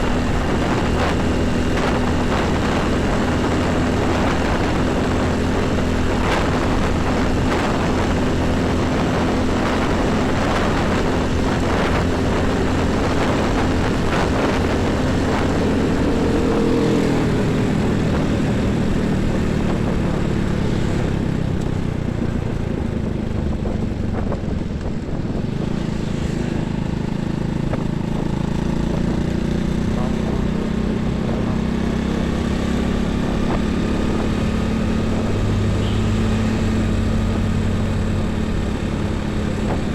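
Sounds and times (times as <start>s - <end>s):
heavy highway traffic: 0.0s - 39.9s
higher engine tone: 0.0s - 39.9s.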